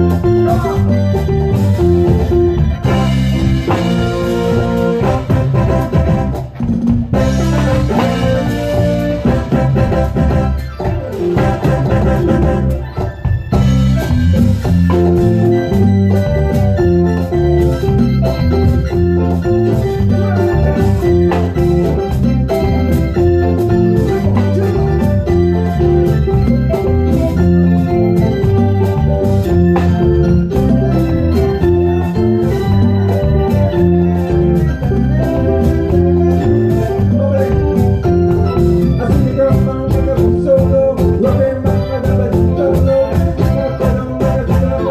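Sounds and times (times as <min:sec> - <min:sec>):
electronic conga and bongo hits: 0:00.0 - 0:44.9
electronic organ chords: 0:00.0 - 0:44.9
low bass notes: 0:00.0 - 0:44.9.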